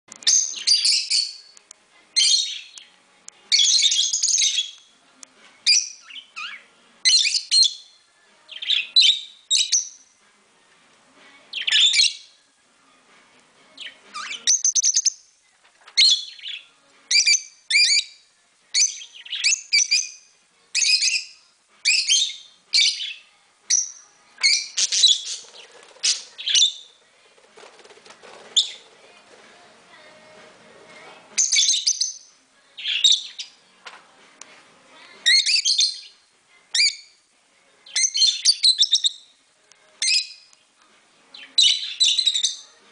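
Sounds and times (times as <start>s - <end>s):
birds chirping: 0.1s - 1.6s, 2.2s - 5.0s, 5.6s - 10.2s, 11.3s - 12.4s, 13.7s - 33.7s, 35.0s - 36.2s, 37.8s - 39.4s, 40.0s - 42.9s.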